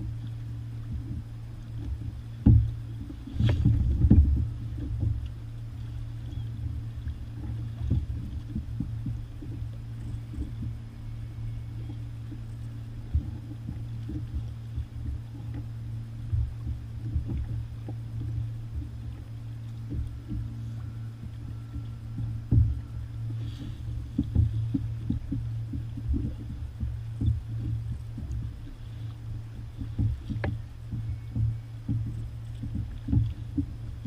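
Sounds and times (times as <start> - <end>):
wind rumbling on microphone: 0.0 - 34.0
water knocking against kayak hull: 0.8 - 5.3, 6.6 - 10.8, 11.8 - 34.0.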